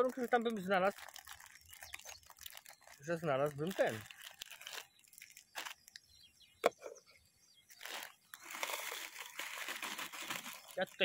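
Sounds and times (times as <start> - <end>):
food packet crack: 0.0 - 6.2, 7.7 - 11.0
food packet crinkling: 0.0 - 6.2, 7.7 - 11.0.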